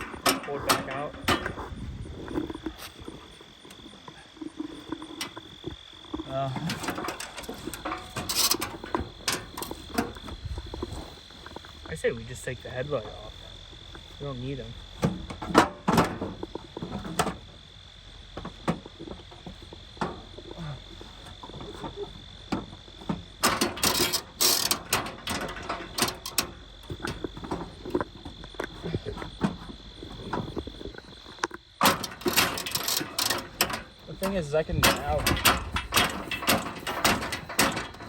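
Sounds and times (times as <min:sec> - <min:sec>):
high insect drone: 0:00.0 - 0:38.0
knocks and rattles of parts: 0:00.0 - 0:38.0.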